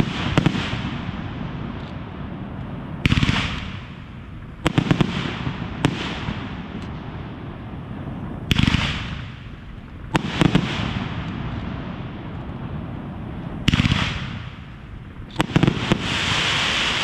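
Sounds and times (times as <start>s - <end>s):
fireworks bangs and cracks: 0.0s - 17.0s
rumble after fireworks: 0.0s - 17.0s.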